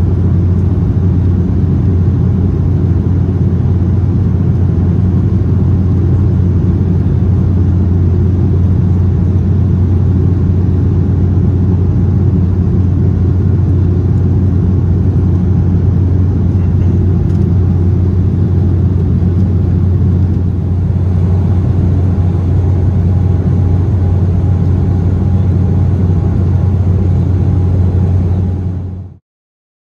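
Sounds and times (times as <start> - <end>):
faint steady whine: 0.0 - 29.2
jet engine drone: 0.0 - 29.2.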